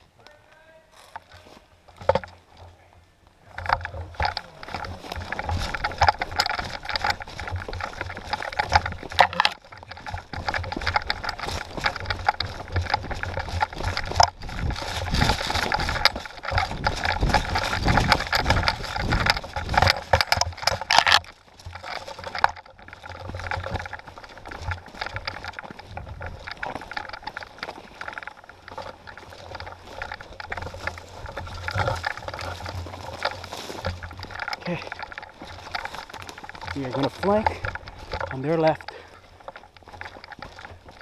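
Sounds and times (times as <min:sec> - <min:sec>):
footsteps crunching dry leaves: 0:00.0 - 0:02.8, 0:03.8 - 0:41.0
brushing through undergrowth: 0:00.9 - 0:41.0.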